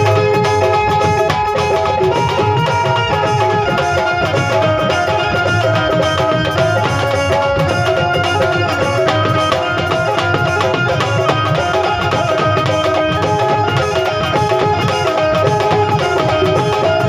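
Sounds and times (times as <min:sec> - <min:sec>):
held melodic tones: 0:00.0 - 0:17.0
tabla drumming: 0:00.0 - 0:17.0.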